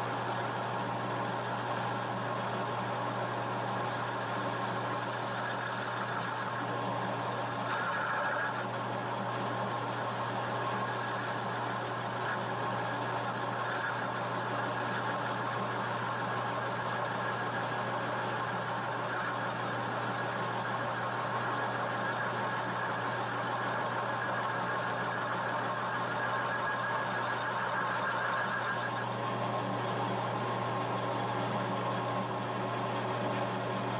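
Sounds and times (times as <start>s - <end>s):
lathe boring bar cutting metal: 0.0s - 29.2s
lathe motor hum: 0.0s - 29.4s.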